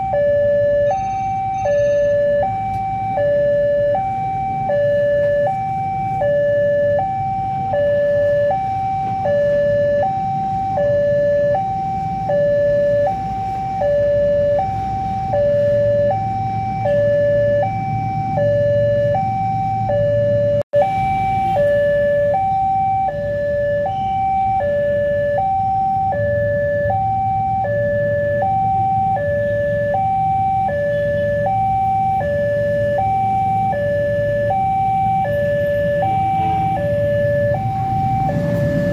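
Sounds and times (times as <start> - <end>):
level crossing two-tone alarm: 0.0 - 38.9
low rumble of traffic: 0.0 - 38.9.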